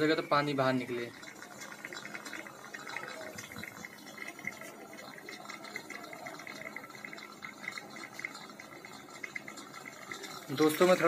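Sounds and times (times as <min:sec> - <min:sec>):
pressure cooker bubbling hiss: 0:00.0 - 0:11.0.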